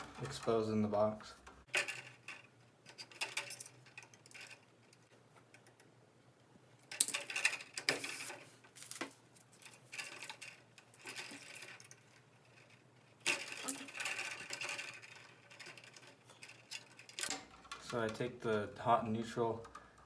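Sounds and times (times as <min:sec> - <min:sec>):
electrical cable clicking and rustling: 0:00.0 - 0:06.0, 0:06.8 - 0:20.0.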